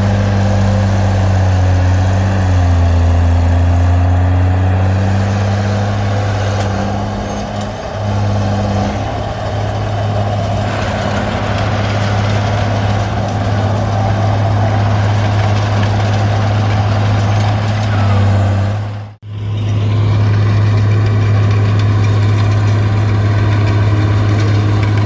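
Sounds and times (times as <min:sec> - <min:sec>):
bulldozer diesel engine running: 0:00.0 - 0:25.0
rough wide noise: 0:00.0 - 0:25.0.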